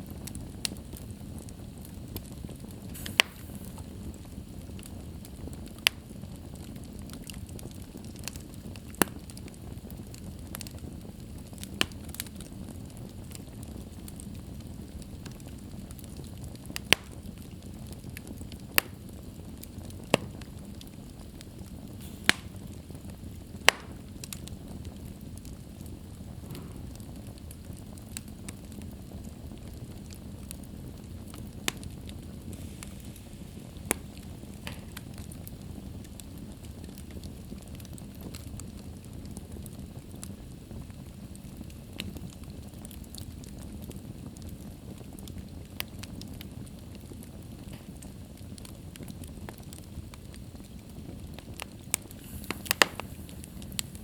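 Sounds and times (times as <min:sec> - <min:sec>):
fire crackling pops: 0:00.0 - 0:54.0
low rumble of flames: 0:00.0 - 0:54.0.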